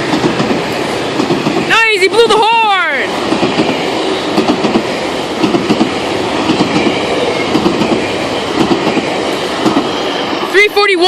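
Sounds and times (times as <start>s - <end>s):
wheels clacking over rail joints: 0.0s - 10.2s
train coaches rumbling: 0.0s - 11.0s.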